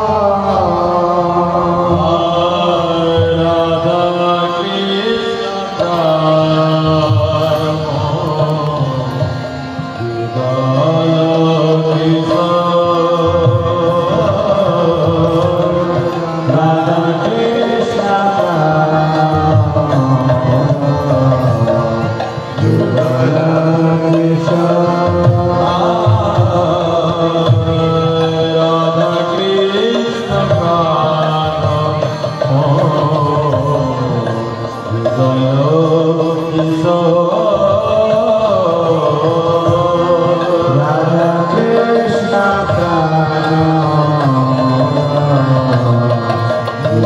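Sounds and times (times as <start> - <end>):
man chanting a devotional song: 0.0 - 47.0.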